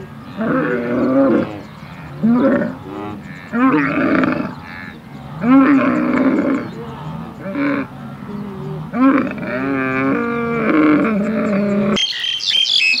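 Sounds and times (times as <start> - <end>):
bird chirps: 0.0 - 13.0
wavering animal calls: 0.0 - 13.0.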